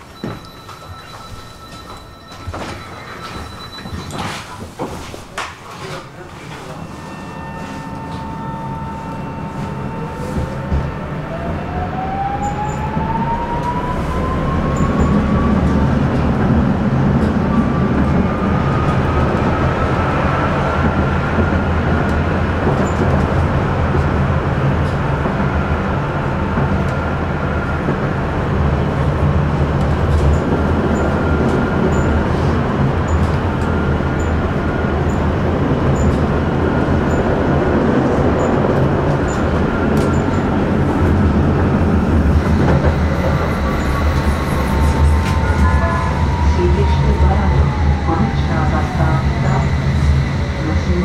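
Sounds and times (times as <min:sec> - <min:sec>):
tram wheels rumbling on track: 0:00.0 - 0:51.0.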